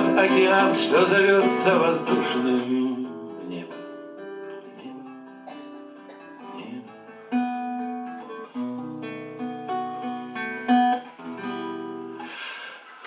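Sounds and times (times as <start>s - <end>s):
strummed guitar chords: 0.0s - 12.5s
acoustic guitar picked notes: 0.0s - 13.0s.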